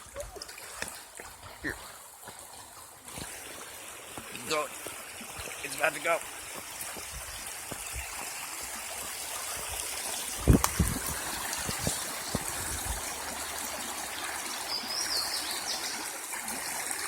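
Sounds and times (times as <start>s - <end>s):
flowing stream: 0.0s - 17.0s.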